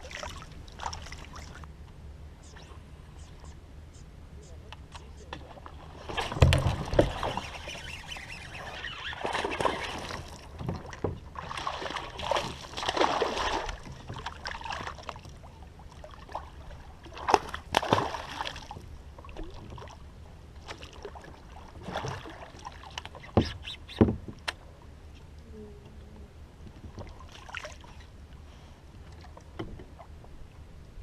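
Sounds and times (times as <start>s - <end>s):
water splashing and sloshing: 0.0s - 3.6s, 4.8s - 24.7s, 26.6s - 31.0s.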